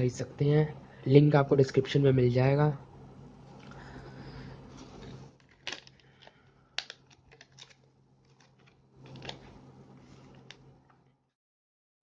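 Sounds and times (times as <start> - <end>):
faint steady hum: 0.0 - 11.4.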